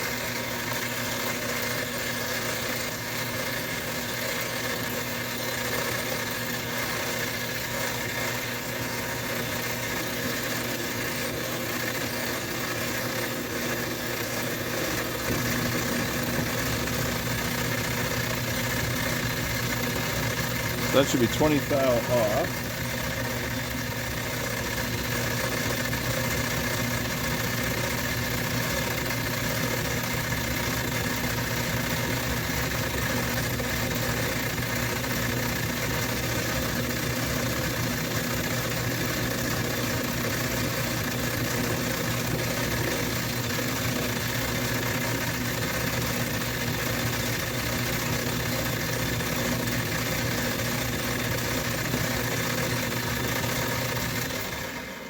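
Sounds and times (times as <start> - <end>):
metal lathe running: 0.0 - 55.0.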